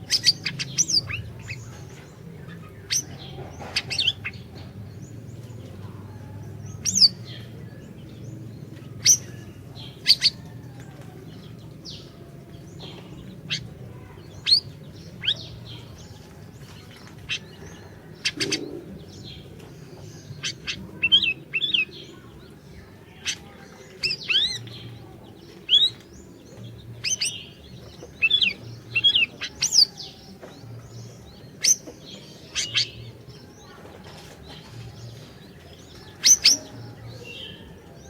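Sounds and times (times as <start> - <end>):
songbird high chirps: 0.0 - 38.0.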